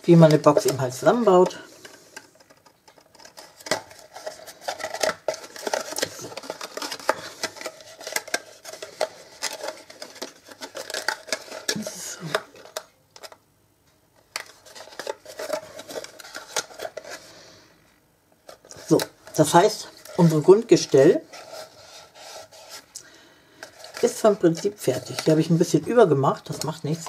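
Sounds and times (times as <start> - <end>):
cardstock rustling and crackling: 0.0 - 13.4, 14.3 - 17.3, 18.4 - 23.0, 23.6 - 27.0.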